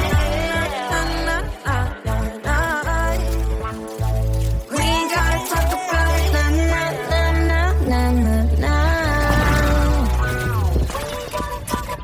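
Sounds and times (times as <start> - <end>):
deep held bass: 0.0 - 5.4, 6.0 - 10.9
pop music: 0.0 - 12.0.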